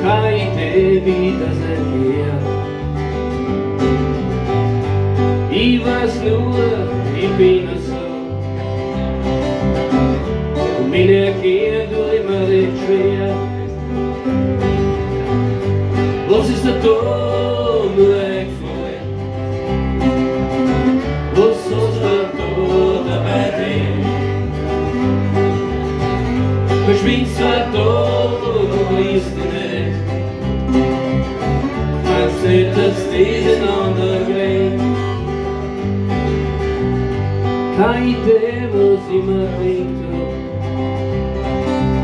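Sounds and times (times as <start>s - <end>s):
acoustic country-folk band: 0.0s - 42.0s
bending guitar lead lines: 0.0s - 42.0s.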